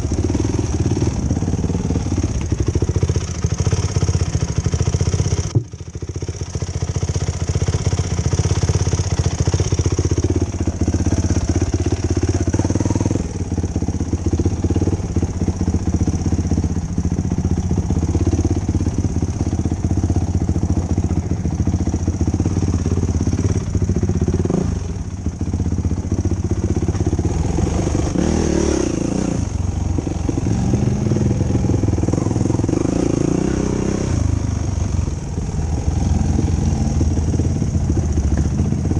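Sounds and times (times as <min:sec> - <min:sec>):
quad engine revving: 0:00.0 - 0:05.6, 0:07.6 - 0:38.9.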